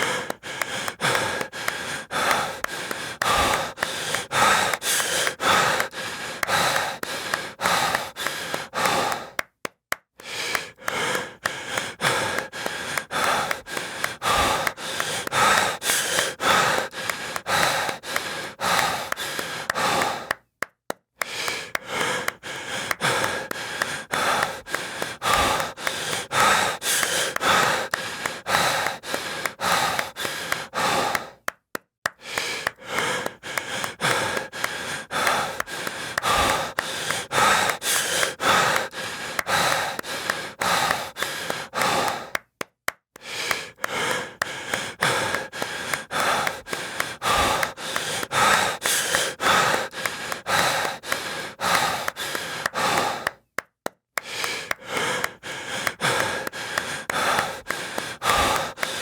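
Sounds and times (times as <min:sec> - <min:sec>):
heavy breathing: 0:00.0 - 0:09.5, 0:10.2 - 0:20.5, 0:21.2 - 0:31.5, 0:32.1 - 0:42.6, 0:43.2 - 0:53.5, 0:54.2 - 0:59.0
hand claps: 0:00.0 - 0:59.0.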